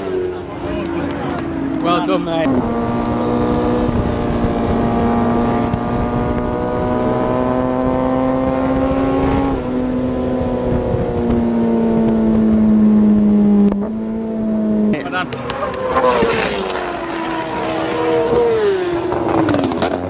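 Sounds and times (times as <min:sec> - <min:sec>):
motorcycle engine at racing speed: 0:00.0 - 0:20.0.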